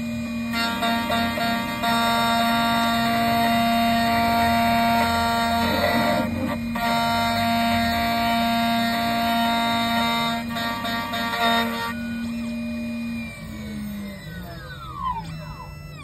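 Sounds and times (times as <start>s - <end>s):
key-cutting machine motor whining: 0.0s - 16.0s.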